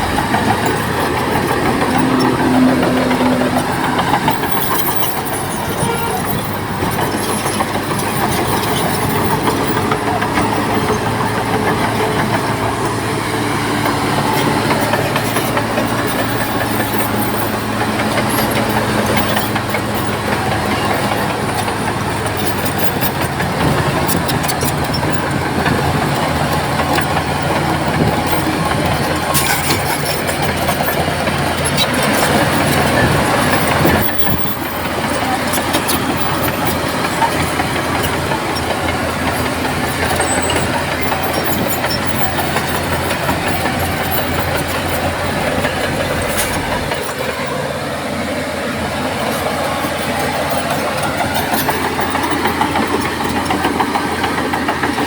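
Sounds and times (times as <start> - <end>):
bulldozer diesel engine running: 0.0 - 55.0
steel tracks clanking: 0.0 - 55.0.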